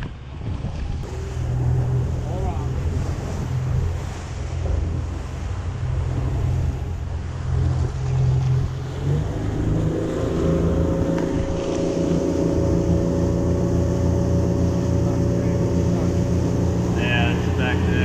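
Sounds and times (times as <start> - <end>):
rushing water: 0.0 - 18.0
wind: 0.0 - 18.0
boat engine revving: 0.8 - 18.0.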